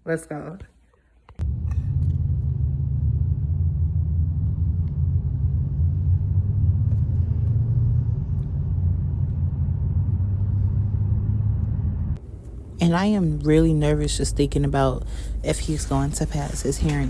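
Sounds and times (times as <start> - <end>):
car engine and tyres rumbling: 1.4 - 17.0.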